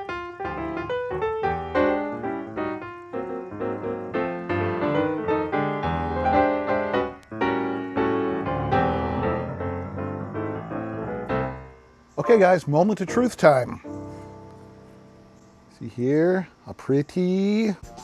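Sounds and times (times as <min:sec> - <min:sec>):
piano notes: 0:00.0 - 0:15.9.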